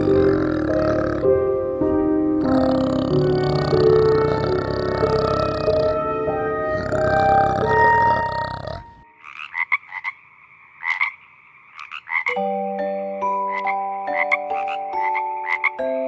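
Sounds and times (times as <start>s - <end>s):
tree frog croaking: 0.0s - 1.5s, 2.4s - 12.4s, 13.4s - 15.8s
soft background music: 0.0s - 9.3s, 12.3s - 16.0s.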